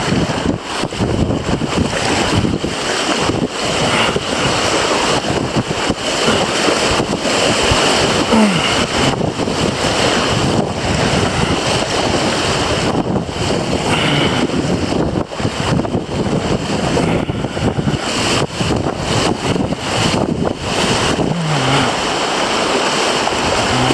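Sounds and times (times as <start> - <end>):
river water rushing through rapids: 0.0 - 23.9
wind buffeting microphone: 0.0 - 23.9.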